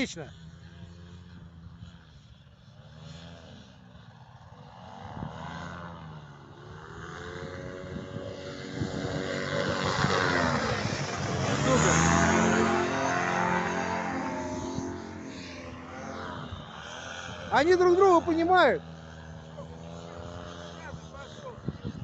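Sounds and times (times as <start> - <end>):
small engines approaching: 0.0 - 22.0.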